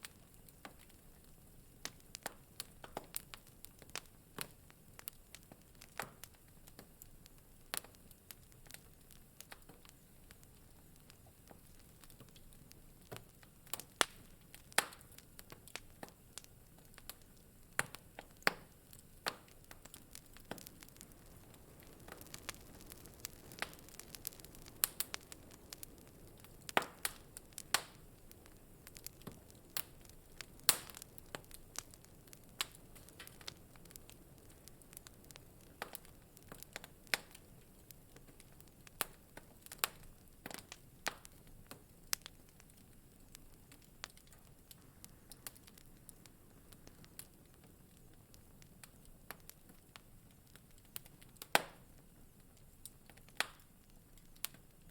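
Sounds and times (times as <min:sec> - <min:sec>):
faint low hiss: 0:00.0 - 0:54.9
wood fire crackling: 0:00.0 - 0:54.9.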